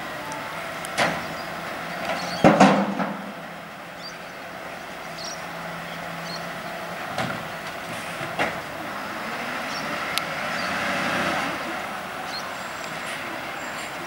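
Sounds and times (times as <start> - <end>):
garbage truck engine running: 0.0 - 14.0.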